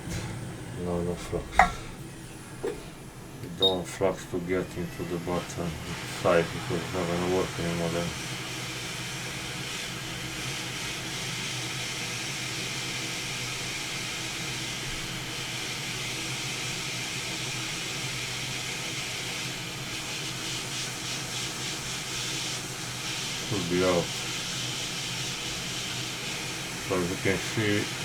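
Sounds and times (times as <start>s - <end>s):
hot air blower hissing: 0.0s - 28.0s.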